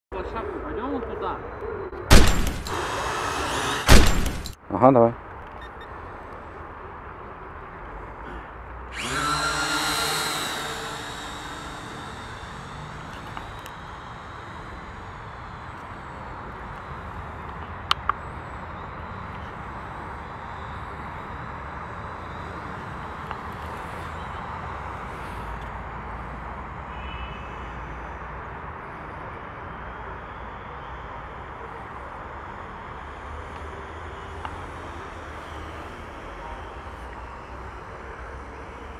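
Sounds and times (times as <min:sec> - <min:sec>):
steady background noise: 0:00.1 - 0:38.9
drone propellers buzzing: 0:02.1 - 0:04.6, 0:08.9 - 0:38.9.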